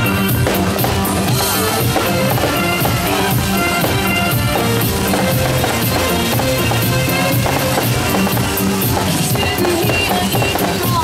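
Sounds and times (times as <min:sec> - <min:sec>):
music with drum beat: 0:00.0 - 0:11.0.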